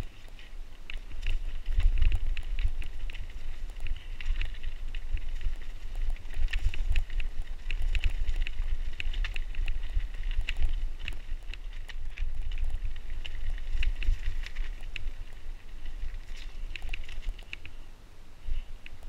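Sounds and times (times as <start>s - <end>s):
bike clicks and rattles: 0.0s - 17.8s
wind rumble on microphone: 0.0s - 19.0s.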